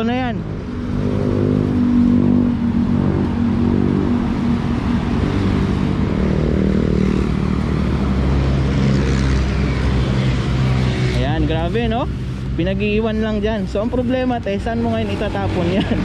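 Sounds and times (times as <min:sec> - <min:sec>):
car and motorcycle engines passing: 0:00.0 - 0:16.0.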